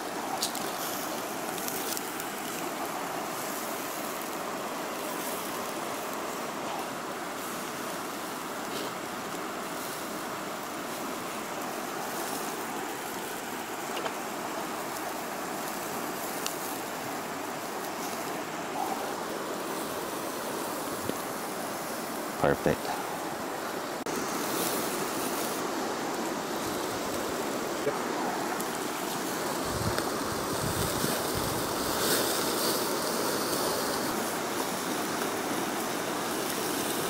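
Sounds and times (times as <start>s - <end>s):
river water rushing: 0.0s - 37.0s
wood fire crackling: 0.0s - 37.0s.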